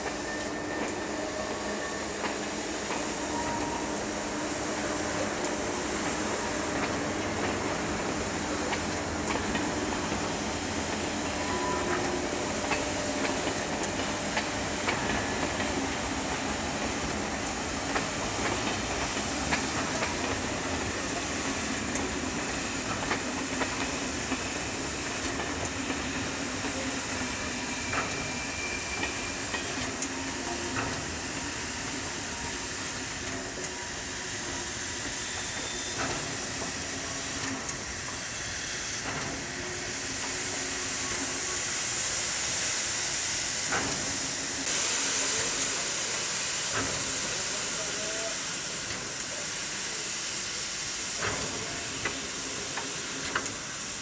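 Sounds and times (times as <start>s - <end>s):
steam hissing from locomotive: 0.0s - 54.0s.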